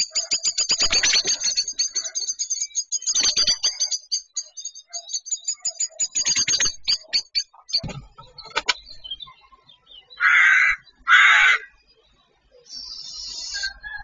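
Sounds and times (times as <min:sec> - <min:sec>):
blackbird alarm chatter: 0:00.0 - 0:14.0.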